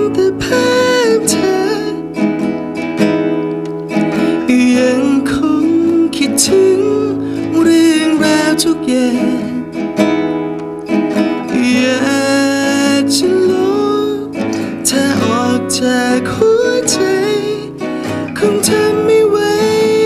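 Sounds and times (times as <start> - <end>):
man singing: 0.0 - 2.2, 4.2 - 9.8, 11.3 - 20.0
classical guitar: 0.0 - 20.0.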